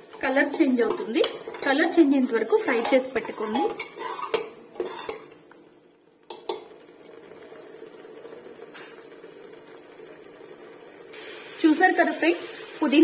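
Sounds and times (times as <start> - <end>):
paste sizzling in oil: 0.0 - 5.5, 6.3 - 13.0.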